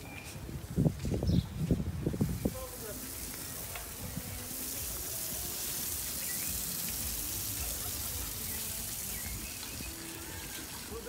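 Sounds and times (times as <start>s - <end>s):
water spraying hiss: 0.0s - 11.0s.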